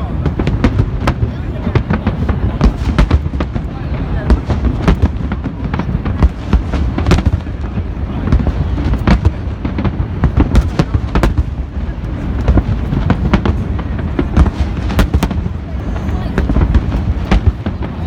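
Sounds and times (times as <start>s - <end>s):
fireworks bangs and booms: 0.0s - 18.0s.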